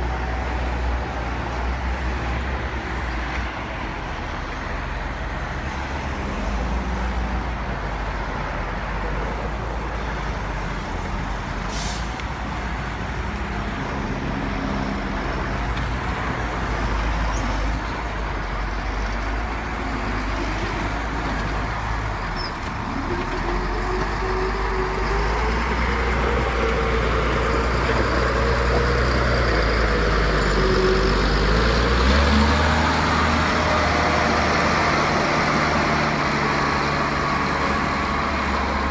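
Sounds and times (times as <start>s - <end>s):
diesel machinery engine rumble: 0.0s - 38.9s.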